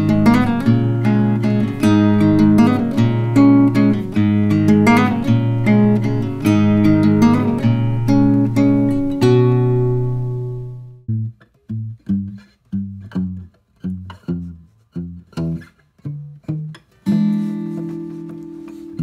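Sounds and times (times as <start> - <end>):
guitar music: 0.0 - 19.0.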